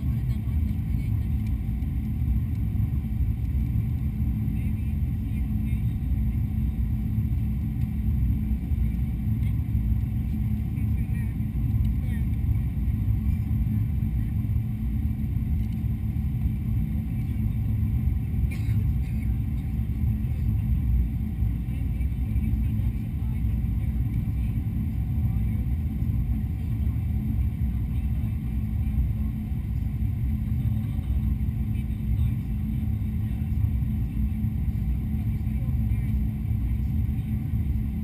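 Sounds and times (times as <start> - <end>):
airliner cabin engine rumble: 0.0 - 38.0.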